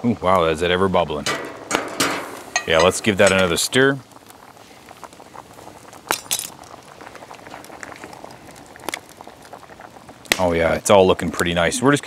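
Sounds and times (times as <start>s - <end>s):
thick stew bubbling: 0.0s - 12.0s.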